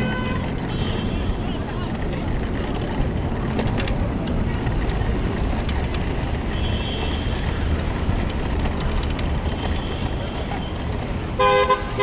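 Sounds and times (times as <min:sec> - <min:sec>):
bicycle road rumble: 0:00.0 - 0:12.0.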